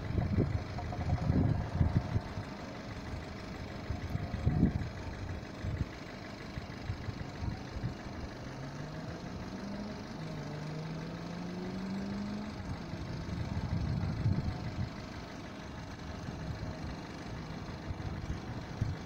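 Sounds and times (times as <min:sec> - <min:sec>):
low outdoor rumble: 0:00.0 - 0:19.0
vehicle engine accelerating: 0:00.0 - 0:19.0.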